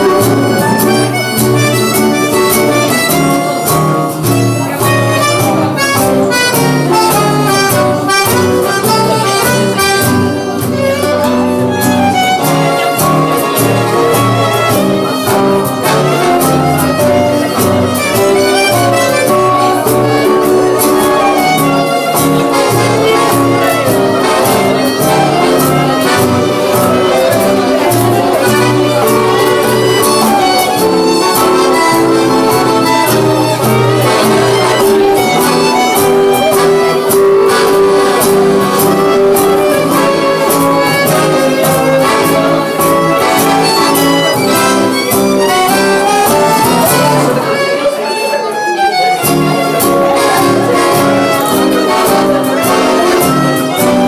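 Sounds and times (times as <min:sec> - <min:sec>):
accordion: 0:00.0 - 0:54.0
bowed violin: 0:00.0 - 0:54.0
cajon beat: 0:00.0 - 0:54.0
strummed acoustic guitars: 0:00.0 - 0:54.0.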